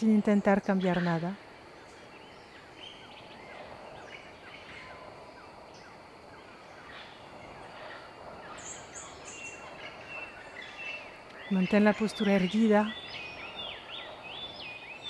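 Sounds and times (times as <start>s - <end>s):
jungle birds chirping and calling: 0.0s - 15.0s
steady background hiss: 0.0s - 15.0s.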